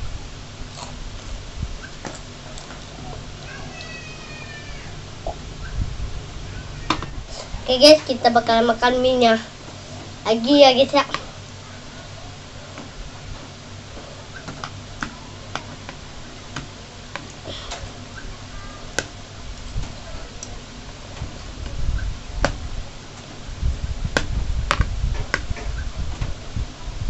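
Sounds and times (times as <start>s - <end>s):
low uneven rumble: 0.0s - 27.0s.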